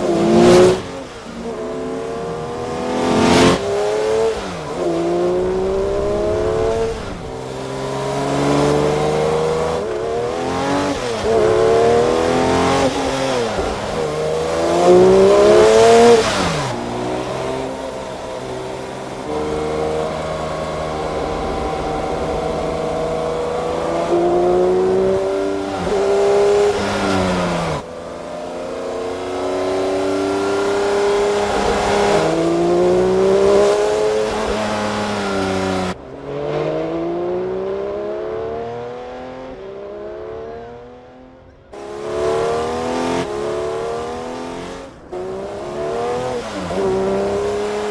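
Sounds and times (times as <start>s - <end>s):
car engine accelerating hard: 0.0s - 47.9s.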